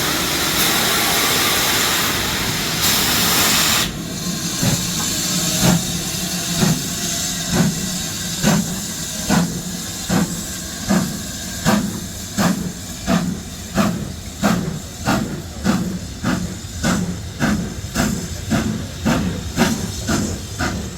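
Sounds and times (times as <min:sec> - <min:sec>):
steam hissing: 0:00.0 - 0:20.9
steam locomotive exhaust beats: 0:00.0 - 0:20.9.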